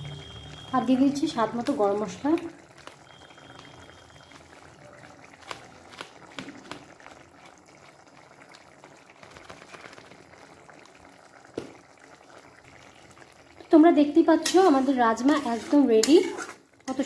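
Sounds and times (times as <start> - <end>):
thick curry bubbling: 0.0 - 17.0.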